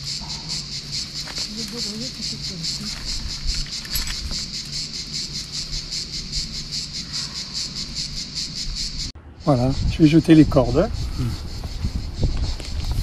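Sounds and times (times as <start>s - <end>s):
cicadas buzzing in chorus: 0.0s - 13.0s.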